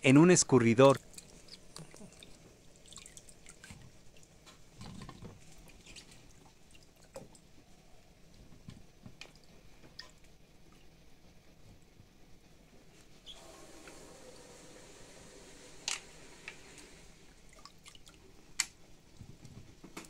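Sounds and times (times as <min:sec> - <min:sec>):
water splashing and dripping: 0:00.8 - 0:11.0, 0:13.7 - 0:20.0.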